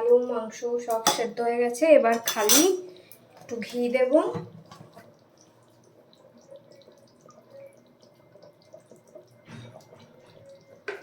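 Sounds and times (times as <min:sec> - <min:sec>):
curry bubbling in a pot: 0:01.7 - 0:11.0.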